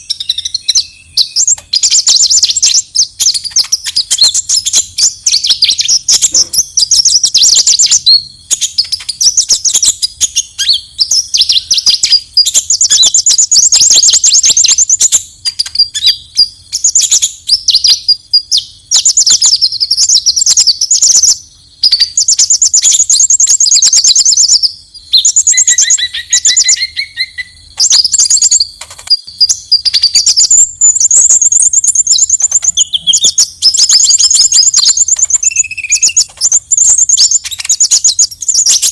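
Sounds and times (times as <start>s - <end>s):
bird chattering trills: 0.0s - 38.9s.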